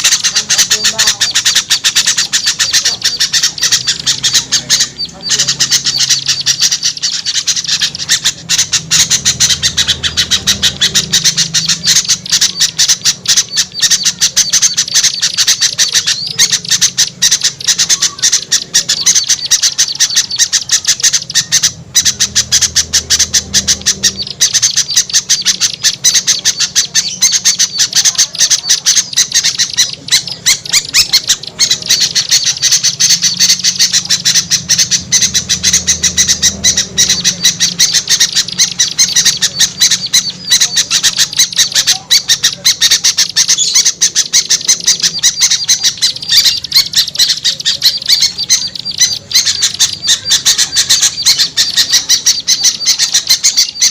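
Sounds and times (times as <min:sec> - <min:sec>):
small birds chattering: 0:00.0 - 0:53.9.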